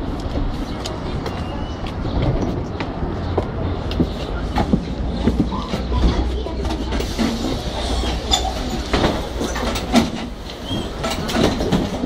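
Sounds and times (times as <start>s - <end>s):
bus engine rumble: 0.0s - 12.0s
rattles and knocks of bus body: 1.2s - 12.0s.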